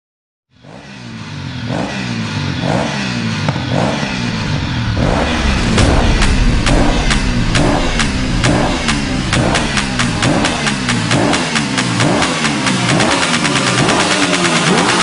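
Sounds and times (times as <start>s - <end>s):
engine revving: 0.6s - 15.0s.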